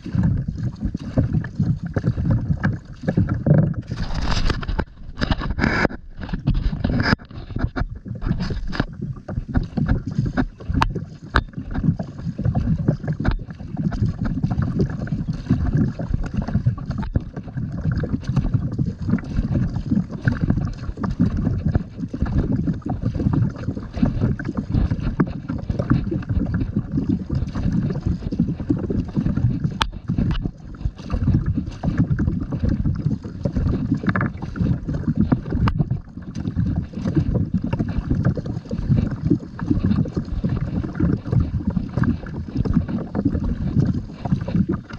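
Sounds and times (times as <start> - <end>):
water sounds: 0.0 - 44.9
wind buffeting microphone: 0.0 - 44.9.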